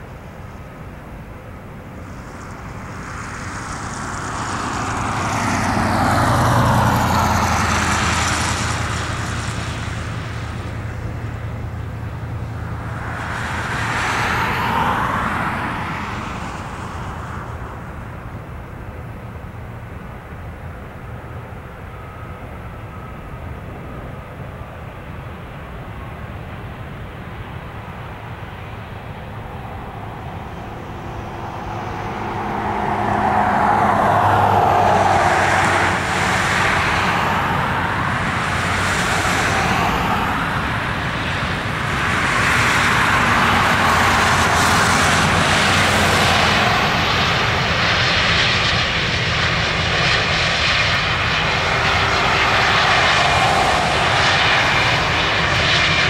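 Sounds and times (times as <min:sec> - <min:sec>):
jet engines on runway: 0:00.0 - 0:56.0.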